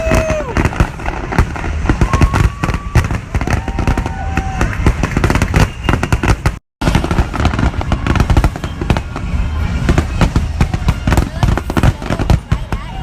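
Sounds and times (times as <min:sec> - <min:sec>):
firework whistling: 0:00.0 - 0:13.0
fireworks crackling pops: 0:00.0 - 0:13.0.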